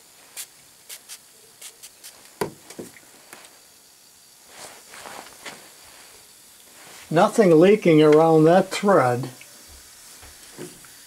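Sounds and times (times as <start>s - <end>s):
hissing spurts from squeeze bottle: 0.0s - 7.2s, 9.4s - 11.0s.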